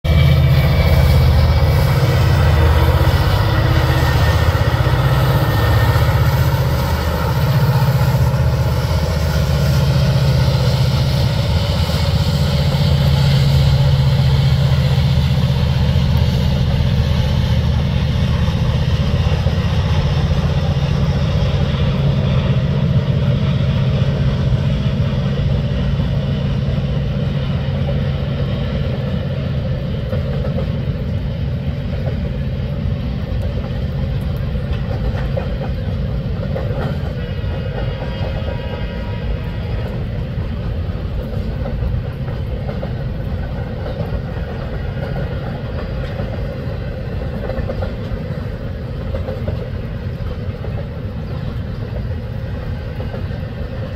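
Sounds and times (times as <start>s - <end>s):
diesel locomotive engine droning: 0.0s - 53.9s
rail cars rolling rumble: 0.0s - 53.9s.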